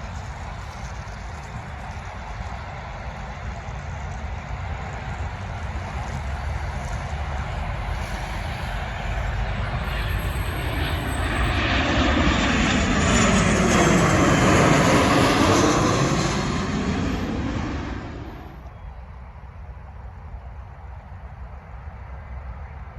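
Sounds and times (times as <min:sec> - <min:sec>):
jet airliner passing by: 0:00.0 - 0:22.9.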